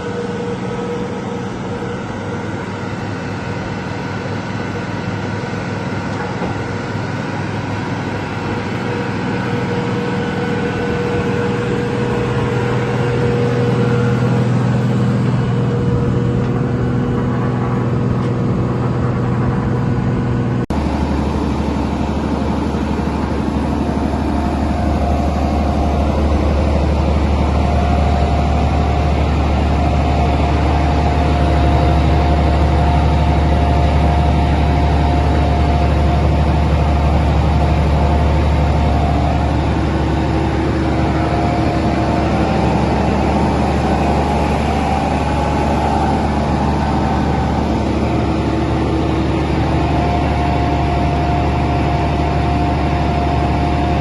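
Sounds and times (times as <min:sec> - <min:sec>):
diesel engine deep hum: 0:00.0 - 0:54.0
higher whine: 0:00.0 - 0:54.0.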